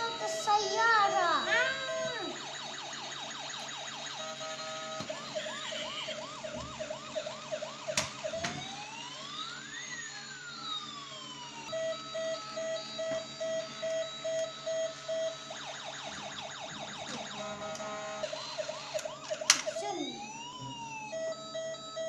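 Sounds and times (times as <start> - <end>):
even electronic beeping: 0.0 - 8.8, 11.7 - 22.0
electronic toy sirens: 0.0 - 22.0.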